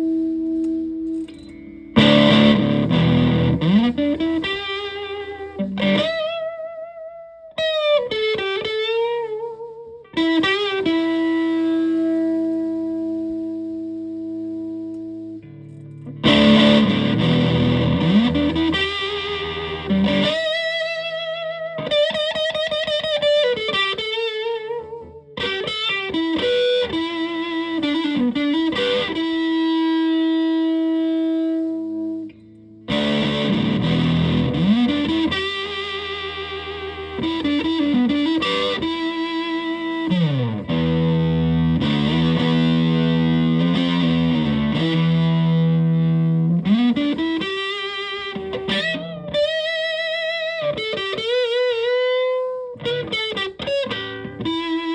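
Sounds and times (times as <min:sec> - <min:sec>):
distorted electric guitar lead: 0:00.0 - 0:54.9.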